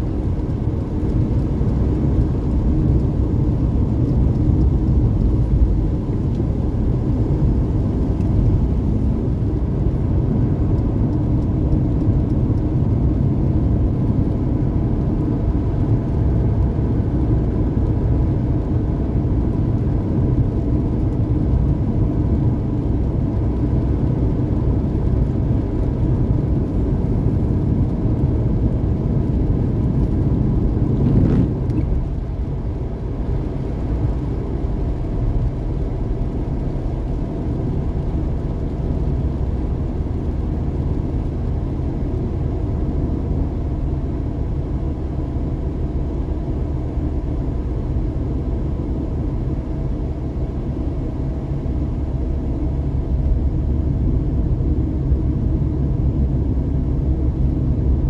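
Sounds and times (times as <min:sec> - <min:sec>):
car road noise from inside: 0:00.0 - 0:58.0.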